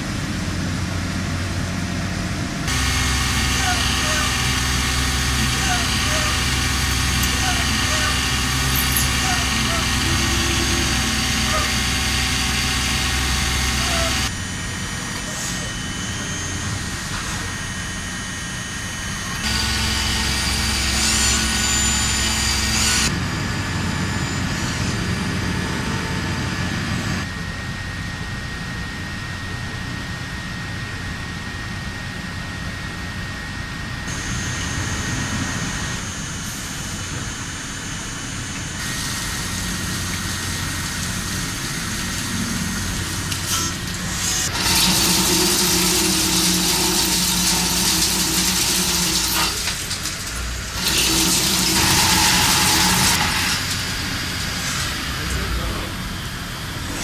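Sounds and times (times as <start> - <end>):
machine hum with high whine: 0.0 - 57.0.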